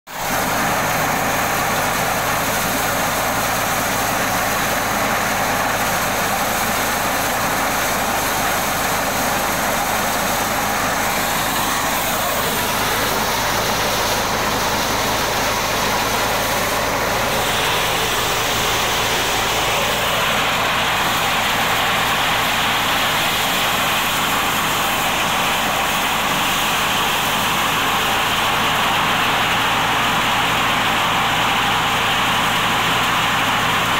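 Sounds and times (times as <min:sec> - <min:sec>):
corn sheller running: 0:00.1 - 0:33.9.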